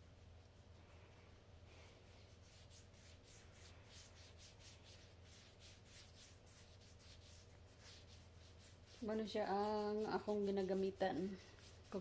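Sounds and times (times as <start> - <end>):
cotton ball rubbing skin: 0.0 - 12.0.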